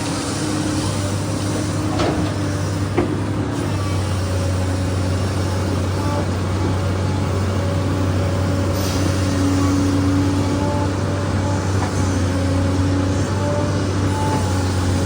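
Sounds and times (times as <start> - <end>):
excavator diesel engine humming: 0.0 - 15.0.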